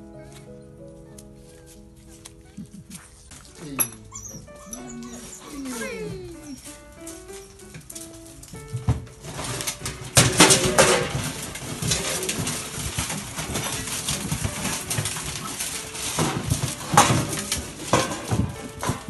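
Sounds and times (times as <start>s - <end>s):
metal bowls clattering and scraping: 2.9s - 19.0s.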